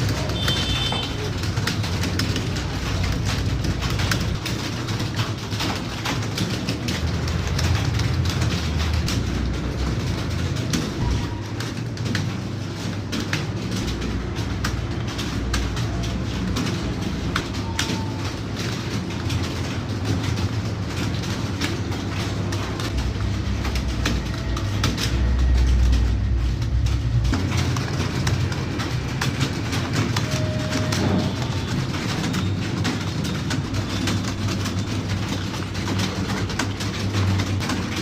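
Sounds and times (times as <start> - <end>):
keyboards typing clatter: 0.0 - 38.0.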